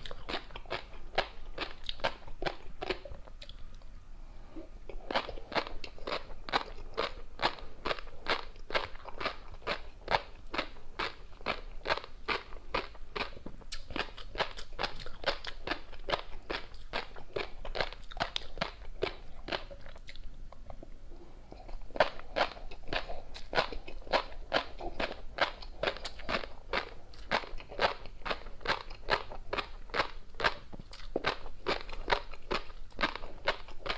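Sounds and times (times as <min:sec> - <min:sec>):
close chewing with crunching: 0:00.0 - 0:03.9, 0:04.9 - 0:33.9.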